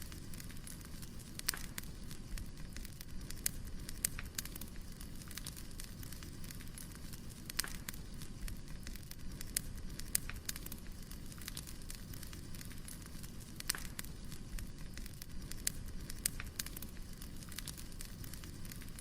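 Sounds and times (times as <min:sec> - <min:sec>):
flame rumbling: 0:00.0 - 0:19.0
wood fire popping and snapping: 0:00.0 - 0:19.0.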